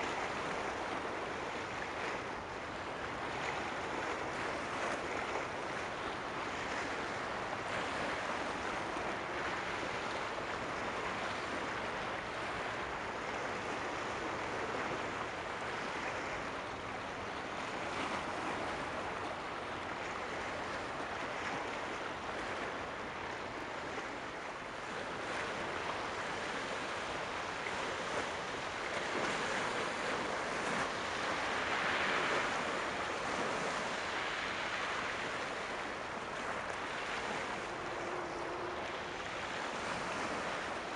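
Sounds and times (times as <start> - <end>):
sea water rushing: 0.0 - 40.9
wind: 0.0 - 40.9.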